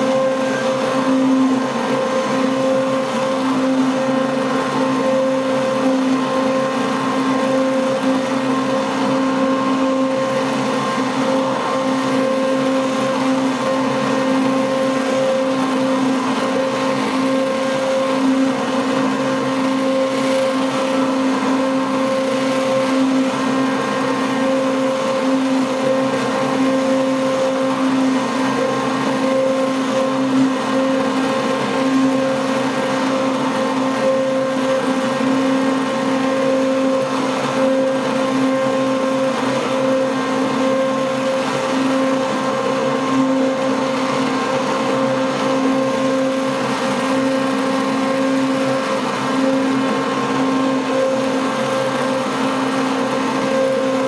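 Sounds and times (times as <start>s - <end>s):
stick blender motor hum: 0.0s - 54.0s.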